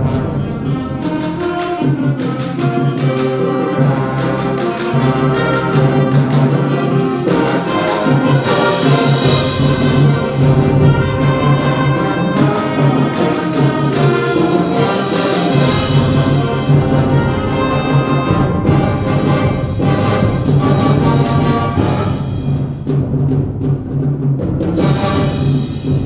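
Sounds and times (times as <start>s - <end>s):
brass ensemble music: 0.0s - 26.0s.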